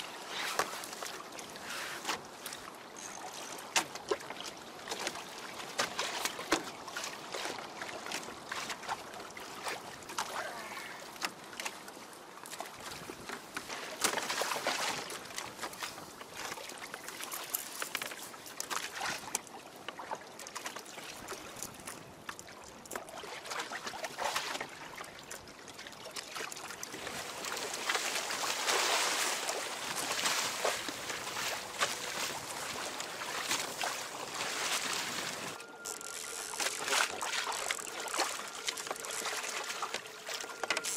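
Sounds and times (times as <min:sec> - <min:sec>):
rush of water: 0:00.0 - 0:40.9
water lapping against kayak hull: 0:00.0 - 0:40.9.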